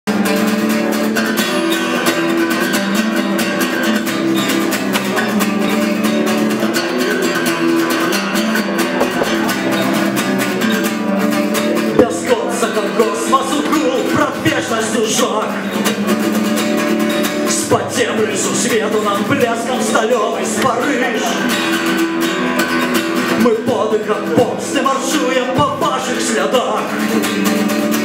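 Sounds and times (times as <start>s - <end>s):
acoustic guitar strumming: 0.1s - 28.0s.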